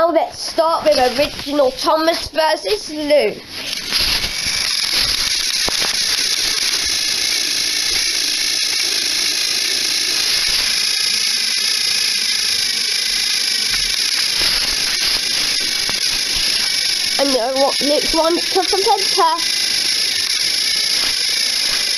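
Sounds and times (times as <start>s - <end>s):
toy train motors whirring: 0.0s - 21.9s.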